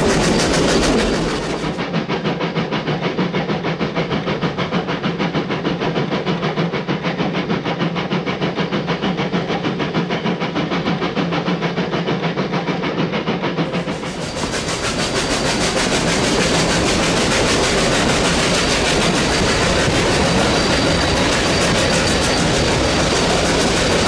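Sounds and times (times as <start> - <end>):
steam locomotive exhaust beats: 0.0 - 24.0
train clattering along track: 0.0 - 24.0.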